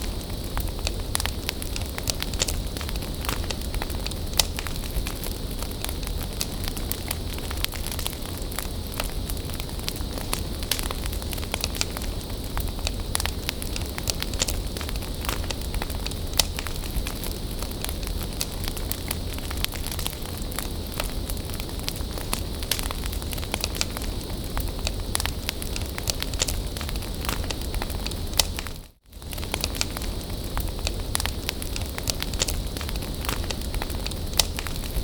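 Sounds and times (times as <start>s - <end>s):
bonfire crackling: 0.0s - 35.0s.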